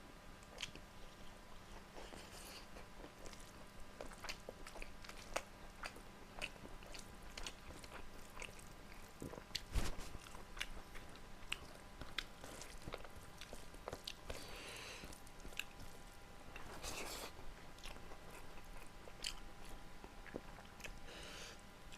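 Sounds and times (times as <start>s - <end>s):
wet chewing clicks and smacks: 0.4s - 21.0s.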